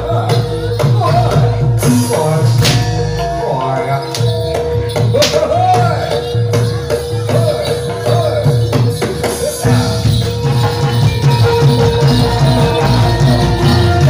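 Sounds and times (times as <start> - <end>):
drums: 0.0 - 14.0
jingling bells: 0.0 - 14.0
tuned metal percussion: 0.0 - 14.0.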